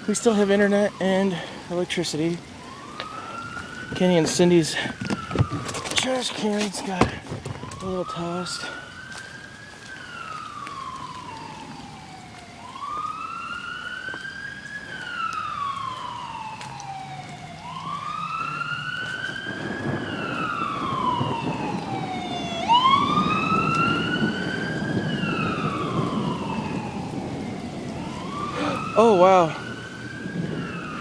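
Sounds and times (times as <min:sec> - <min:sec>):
emergency vehicle siren wailing: 0:00.0 - 0:31.0
rain: 0:00.0 - 0:31.0.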